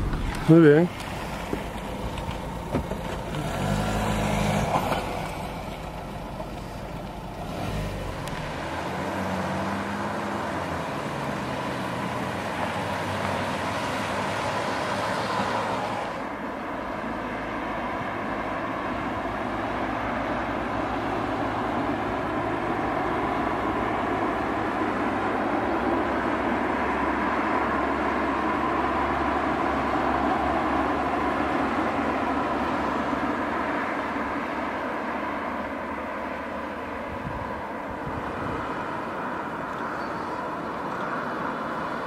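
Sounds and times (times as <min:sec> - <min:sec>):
cars driving past: 0:00.0 - 0:42.0
road noise rush: 0:00.0 - 0:42.0.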